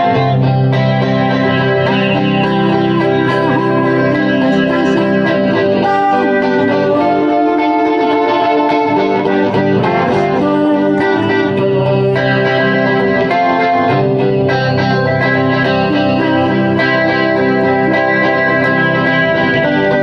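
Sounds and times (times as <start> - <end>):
guitar chords through effects: 0.0 - 20.0.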